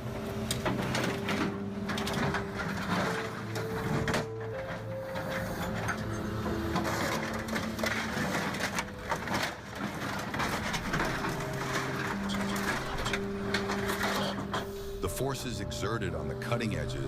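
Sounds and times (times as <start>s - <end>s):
background music with held notes: 0.0s - 17.0s
hydraulic machine crushing metal: 0.0s - 17.0s.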